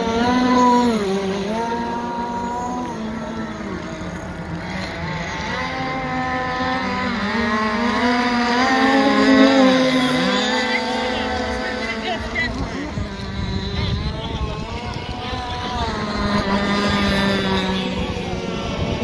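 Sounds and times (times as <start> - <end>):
small boat engines whining: 0.0 - 19.0.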